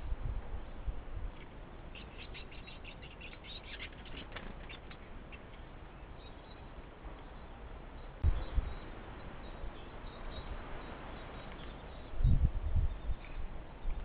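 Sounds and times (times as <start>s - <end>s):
small bird chirping: 1.3s - 14.0s.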